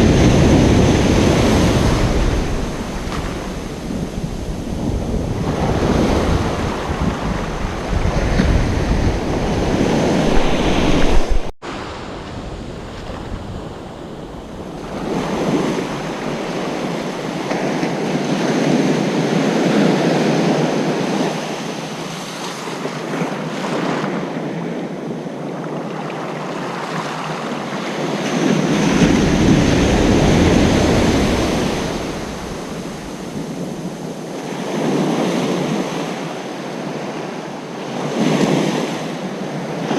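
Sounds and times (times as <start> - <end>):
wind rumbling on microphone: 0.0 - 22.0, 27.4 - 39.9
ocean surf breaking: 0.0 - 24.3, 26.6 - 39.9.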